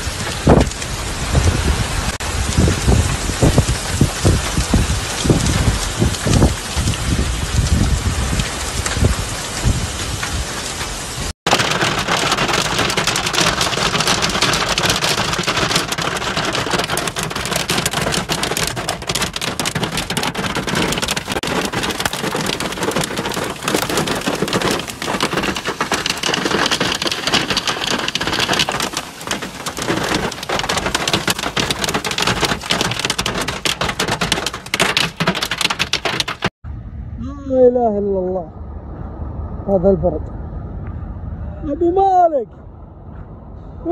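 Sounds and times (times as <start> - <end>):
hail on open ground: 0.0 - 36.5
hailstones pelting car roof: 0.0 - 36.5
wind rumbling on microphone: 0.0 - 43.9.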